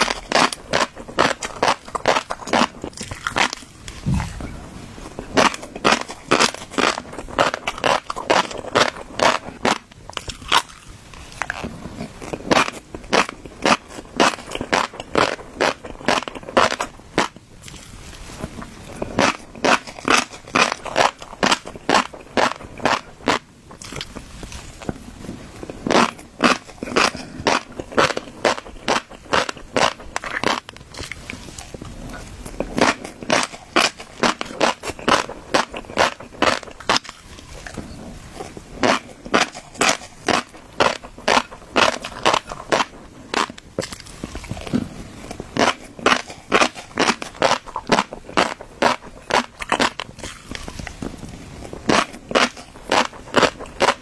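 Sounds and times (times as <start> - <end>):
chewing fish roe popping: 0.0 - 54.0.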